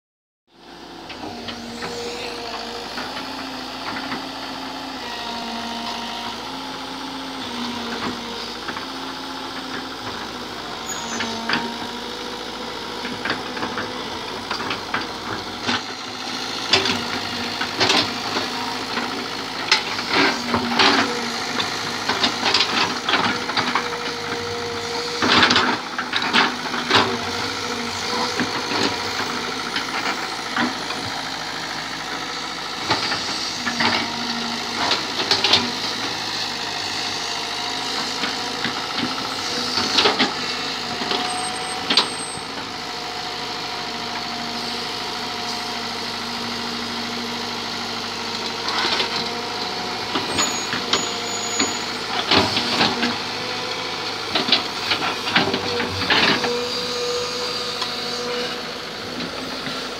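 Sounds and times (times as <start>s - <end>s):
excavator engine running: 0.6s - 59.9s.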